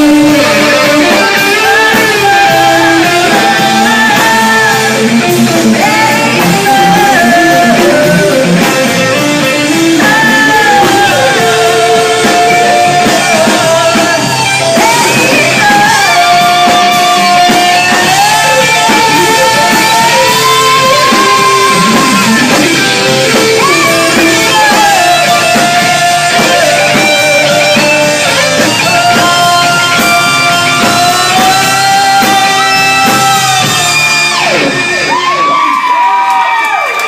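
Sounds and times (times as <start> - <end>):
lead electric guitar bending notes: 0.0 - 35.8
drums: 0.0 - 37.0
rhythm guitar: 0.0 - 37.0.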